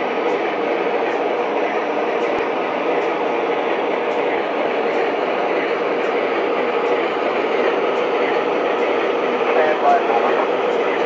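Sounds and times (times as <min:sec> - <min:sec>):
constant hum: 0:00.0 - 0:11.0
model train diesel rumble: 0:00.0 - 0:11.0.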